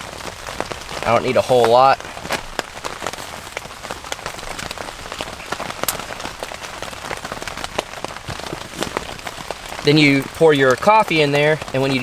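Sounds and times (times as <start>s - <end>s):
raindrops ticking on a surface: 0.0s - 12.0s
steady rain falling: 0.0s - 12.0s.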